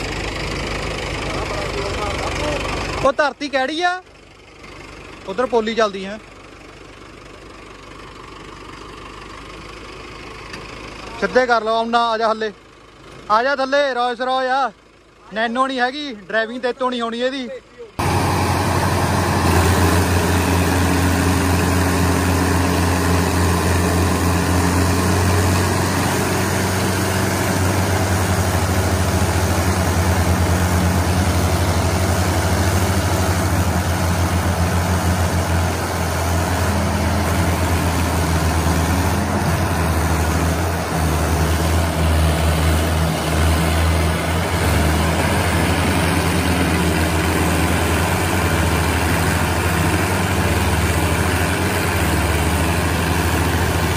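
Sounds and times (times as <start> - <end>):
diesel tractor engine droning: 0.0 - 53.9.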